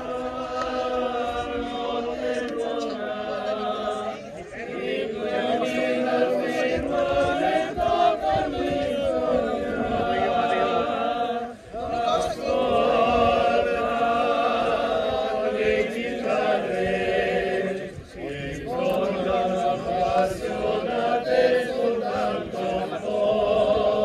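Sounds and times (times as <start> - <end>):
men singing a cappella: 0.0 - 24.0.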